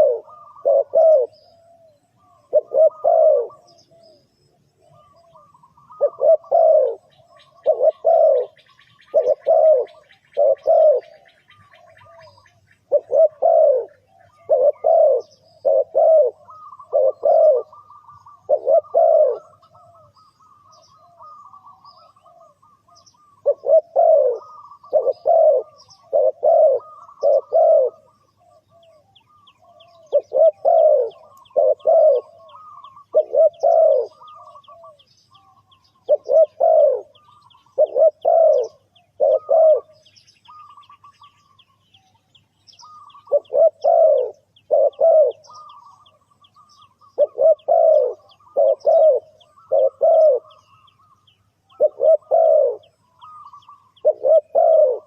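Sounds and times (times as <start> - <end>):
dove cooing: 0.0 - 55.0
small birds chirping: 0.0 - 55.0.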